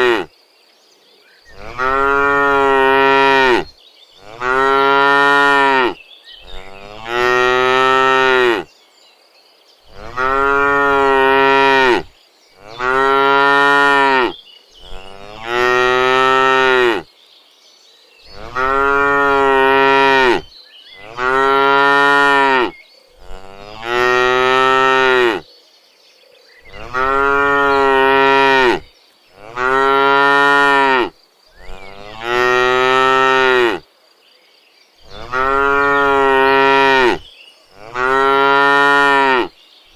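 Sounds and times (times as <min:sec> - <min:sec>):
cattle mooing: 0:00.0 - 0:00.3, 0:01.6 - 0:08.7, 0:09.9 - 0:17.0, 0:18.3 - 0:25.4, 0:26.7 - 0:28.8, 0:29.4 - 0:33.8, 0:35.1 - 0:37.2, 0:37.8 - 0:39.5.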